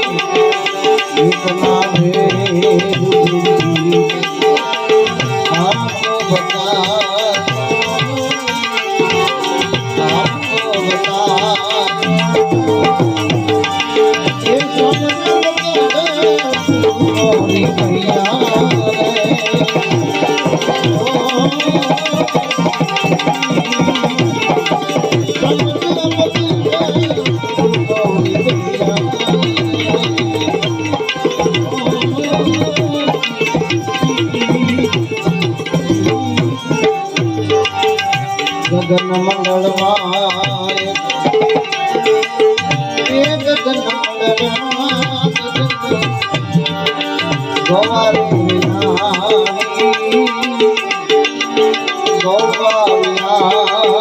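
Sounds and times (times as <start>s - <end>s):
tabla playing: 0.0s - 54.0s
wavering melodic line: 0.0s - 54.0s.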